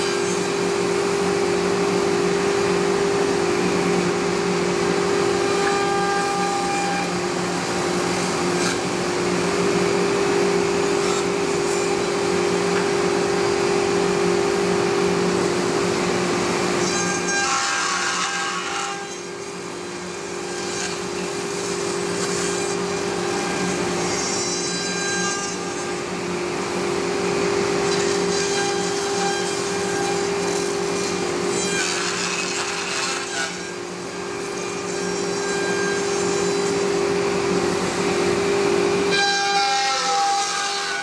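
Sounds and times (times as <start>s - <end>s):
router cutting wood: 0.0s - 41.0s.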